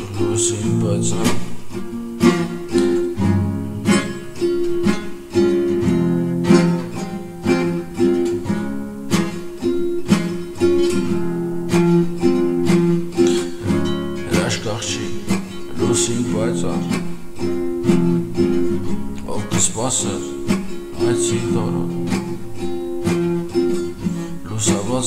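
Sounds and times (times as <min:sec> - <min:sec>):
guitar playing steady rhythm: 0:00.0 - 0:25.0.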